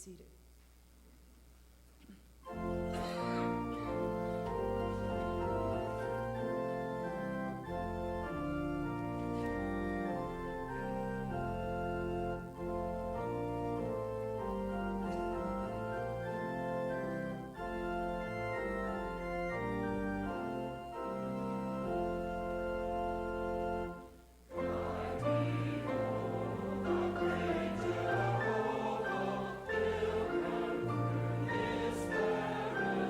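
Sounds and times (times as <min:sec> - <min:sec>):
church organ chords: 0:02.4 - 0:33.0.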